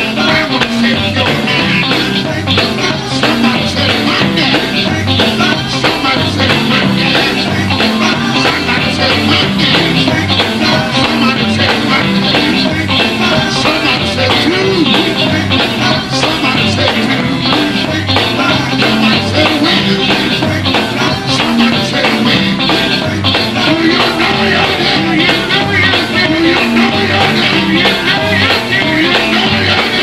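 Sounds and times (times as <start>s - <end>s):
bass line: 0.0s - 30.0s
drum beat: 0.0s - 30.0s
gospel band playing: 0.0s - 30.0s.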